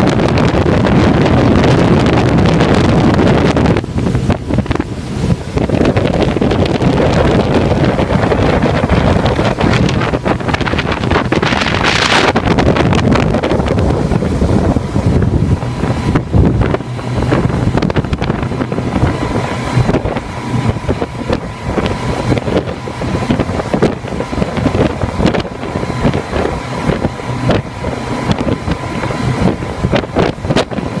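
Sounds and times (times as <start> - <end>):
loud rush of noise: 0.0 - 31.0
outboard motors whining: 0.0 - 31.0
wind noise on microphone: 0.0 - 31.0.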